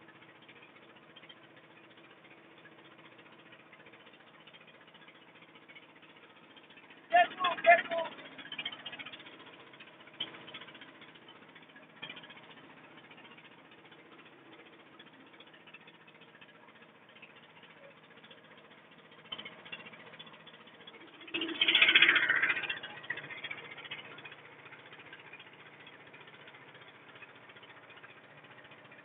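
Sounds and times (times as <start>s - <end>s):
boat engine running: 0.0s - 29.0s
rattle: 0.0s - 29.0s.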